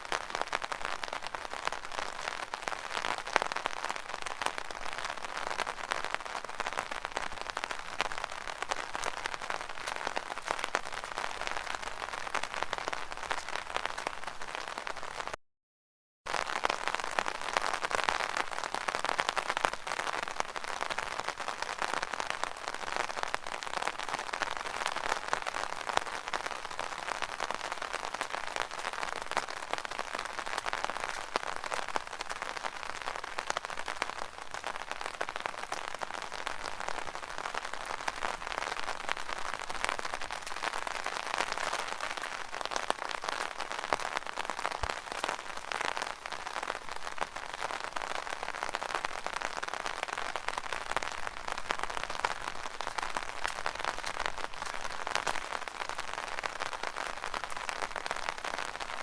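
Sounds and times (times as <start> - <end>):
rain pattering on umbrella: 0.0 - 15.4, 16.3 - 59.0.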